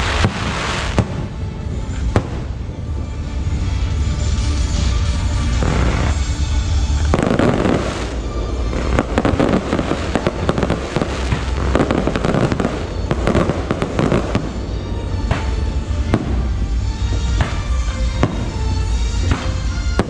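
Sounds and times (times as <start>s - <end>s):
fireworks crackling and bangs: 0.0s - 20.0s.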